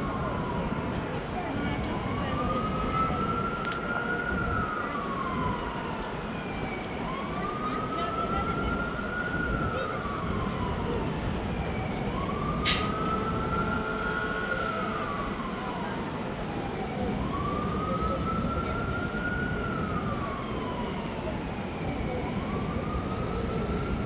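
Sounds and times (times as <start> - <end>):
city traffic rumble: 0.0 - 24.0
emergency vehicle siren wailing: 0.0 - 24.0.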